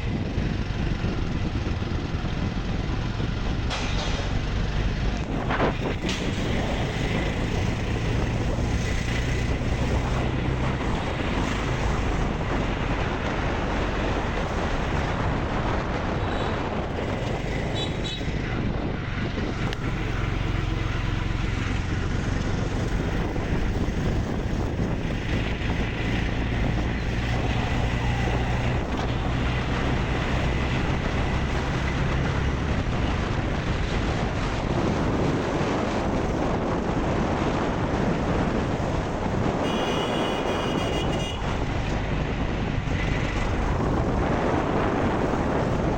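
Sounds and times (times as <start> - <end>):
vehicle engine hum and road noise: 0.0 - 45.9
wind buffeting microphone: 0.0 - 45.9.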